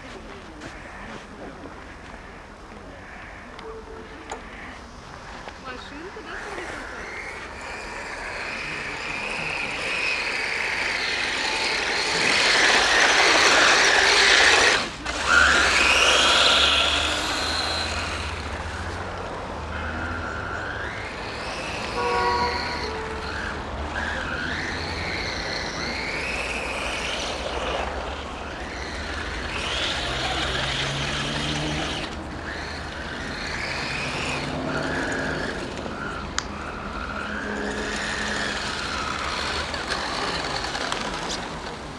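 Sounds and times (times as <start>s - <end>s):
toy truck motor whining: 6.1s - 41.9s.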